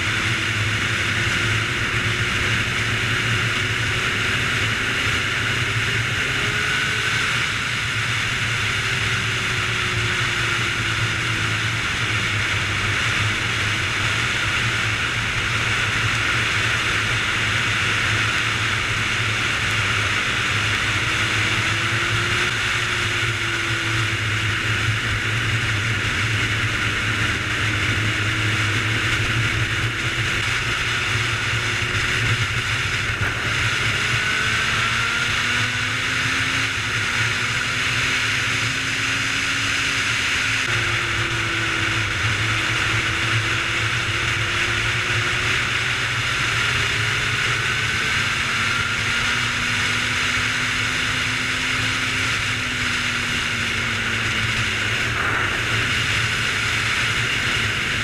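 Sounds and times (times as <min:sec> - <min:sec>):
motorcycle engine cruising: 0:00.0 - 0:58.0
wind rushing on microphone: 0:00.0 - 0:58.0.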